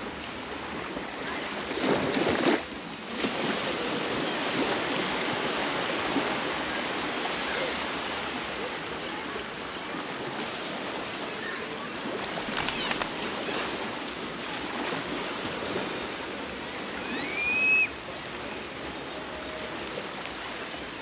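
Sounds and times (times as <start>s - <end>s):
surf washing on beach: 0.0s - 21.0s.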